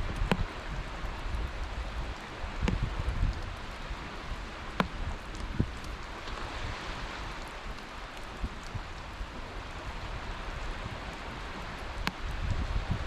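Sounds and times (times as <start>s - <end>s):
rushing outdoor ambient noise: 0.0s - 13.0s.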